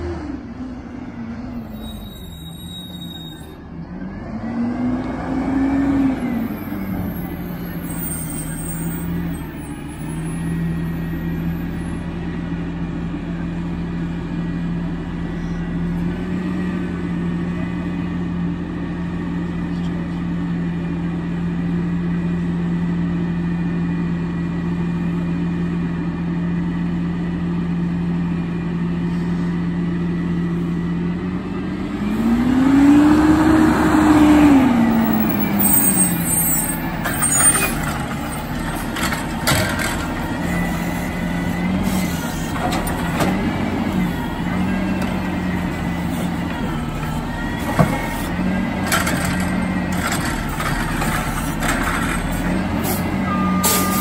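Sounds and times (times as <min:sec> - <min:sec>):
garbage truck engine: 0:00.0 - 0:54.0.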